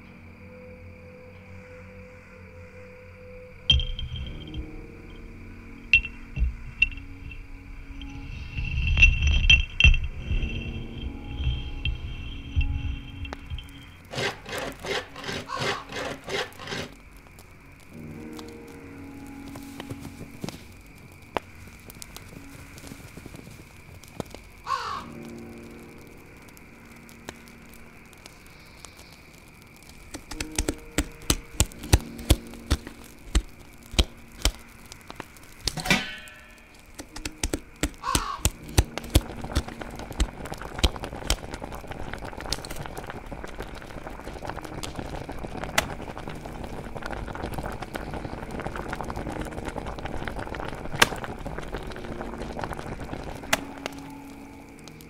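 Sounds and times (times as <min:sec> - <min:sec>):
faint eerie drone: 0:00.0 - 0:55.0
pot boiling over wood fire: 0:03.8 - 0:55.0.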